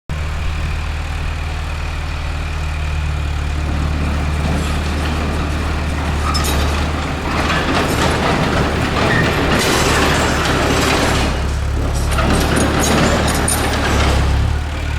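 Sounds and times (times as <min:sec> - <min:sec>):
heavy diesel engine droning: 0:00.1 - 0:14.9
rattling and rumbling: 0:00.1 - 0:14.9.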